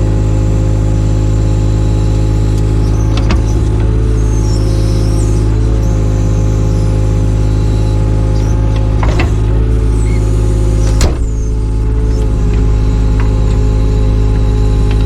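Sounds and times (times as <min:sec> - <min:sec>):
excavator diesel engine running: 0:00.0 - 0:15.0
high squeaks: 0:01.9 - 0:15.0.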